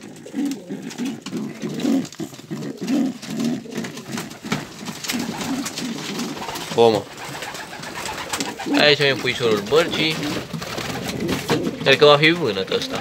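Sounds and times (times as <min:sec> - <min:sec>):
pigeons cooing: 0:00.0 - 0:13.0
straw nest rustling: 0:00.0 - 0:13.0.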